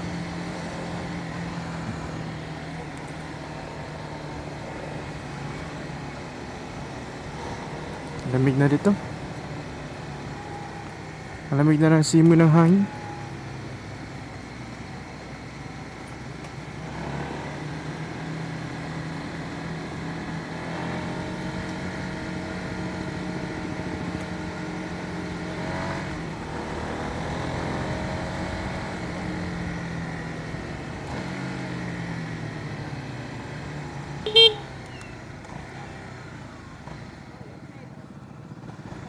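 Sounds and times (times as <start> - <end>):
motorcycle engine revving: 0.0 - 39.0
wind and road noise: 0.0 - 39.0.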